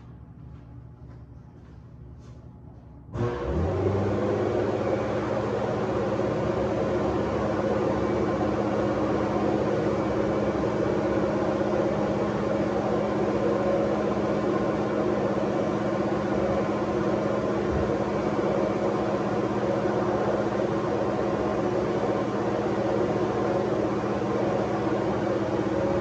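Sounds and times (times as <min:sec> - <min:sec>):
fan rushing noise: 0:00.0 - 0:26.0
machine hum with low tones: 0:00.0 - 0:26.0.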